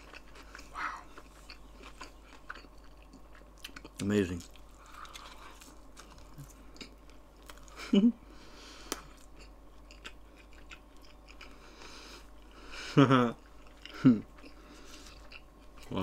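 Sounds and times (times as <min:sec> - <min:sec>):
person chewing with wet smacks: 0:00.0 - 0:07.8, 0:08.8 - 0:12.6, 0:13.4 - 0:16.0.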